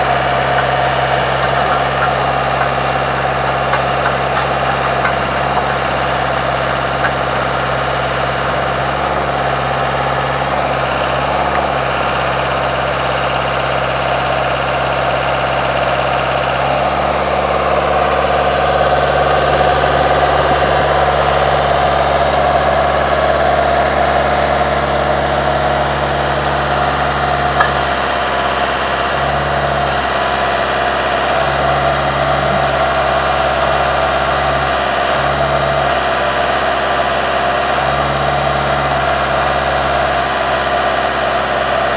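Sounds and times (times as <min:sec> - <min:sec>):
backhoe engine running: 0:00.0 - 0:41.9.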